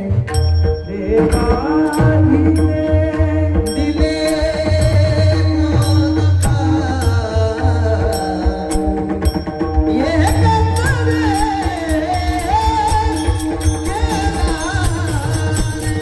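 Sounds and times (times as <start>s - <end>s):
man singing: 0.0s - 16.0s.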